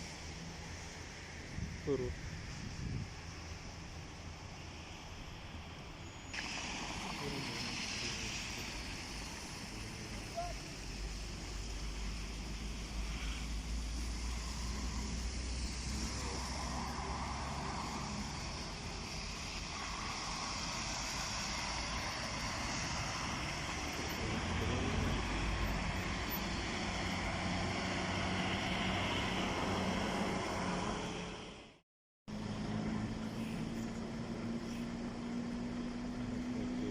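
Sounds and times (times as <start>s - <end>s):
vehicle and road noise: 0.0s - 36.9s.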